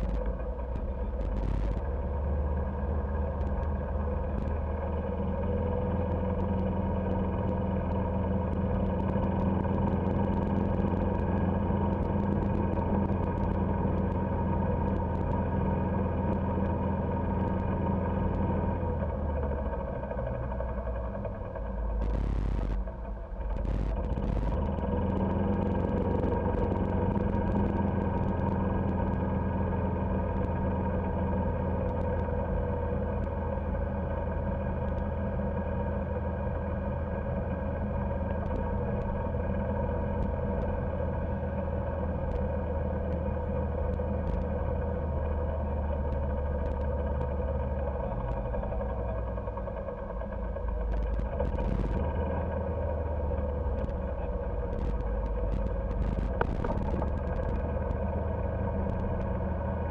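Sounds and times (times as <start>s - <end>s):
faint clicks: 0.0s - 2.0s, 2.6s - 29.5s, 30.1s - 33.8s, 34.6s - 35.2s, 38.2s - 59.9s
golf cart motor drone: 0.0s - 59.9s.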